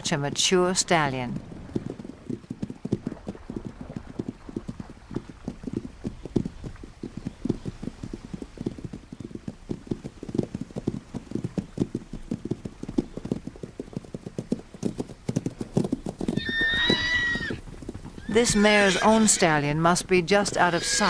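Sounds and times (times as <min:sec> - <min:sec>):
horse hoofbeats running: 0:00.0 - 0:21.0.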